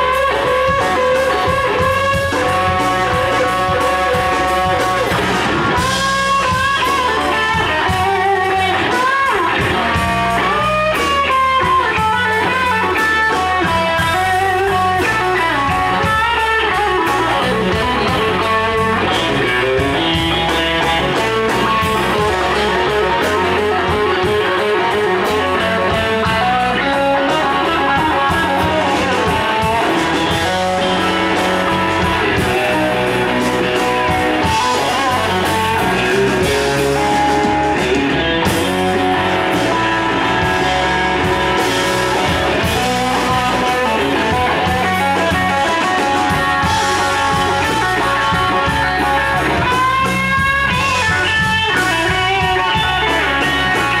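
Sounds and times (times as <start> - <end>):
blues band playing: 0.0 - 54.0
electric guitar lead lines: 0.0 - 54.0.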